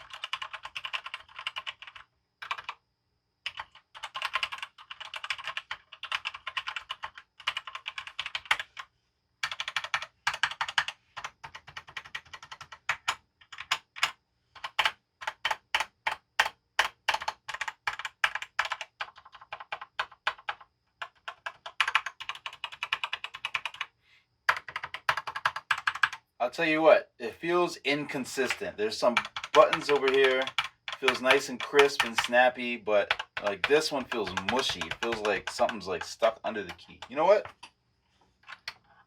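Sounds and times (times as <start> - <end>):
fast typing on mechanical keyboard: 0.0 - 2.8, 3.4 - 23.9, 24.5 - 26.2, 28.4 - 37.7, 38.4 - 38.8.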